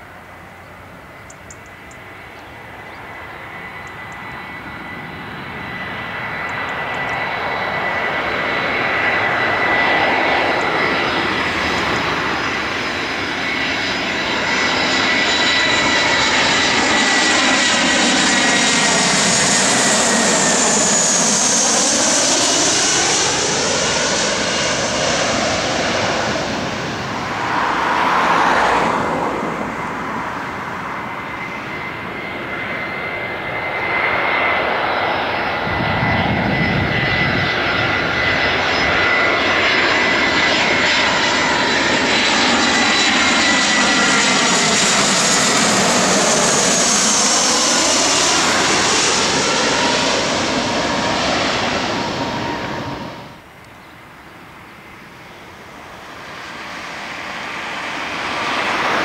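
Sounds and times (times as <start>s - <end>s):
jet engines passing overhead: 0.0s - 59.0s.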